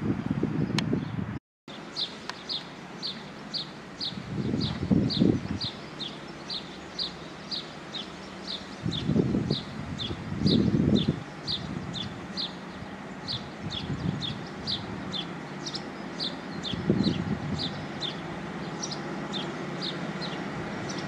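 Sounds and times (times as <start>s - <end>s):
wind rumbling on microphone: 0.0s - 1.4s, 3.5s - 21.0s
small bird chirping: 1.0s - 21.0s.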